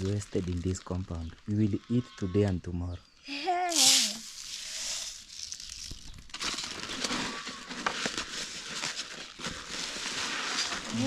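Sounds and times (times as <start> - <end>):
dry rice rustling: 0.0 - 2.0, 3.5 - 11.0.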